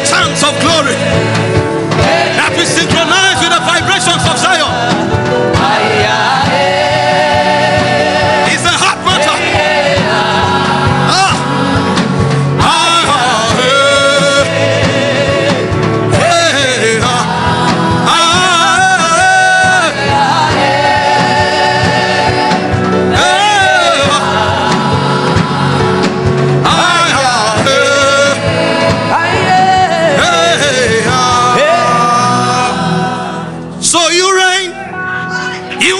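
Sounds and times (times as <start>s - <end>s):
gospel worship singing: 0.0s - 35.9s
instrumental backing: 0.0s - 35.9s.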